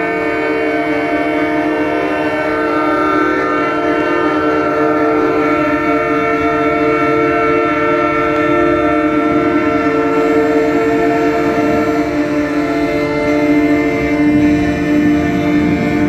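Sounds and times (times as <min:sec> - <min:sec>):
truck air horns: 0:00.0 - 0:16.0.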